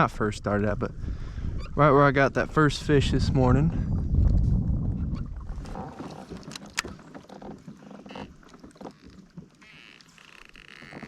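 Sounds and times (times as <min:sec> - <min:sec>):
water lapping against hull: 0:00.0 - 0:11.0.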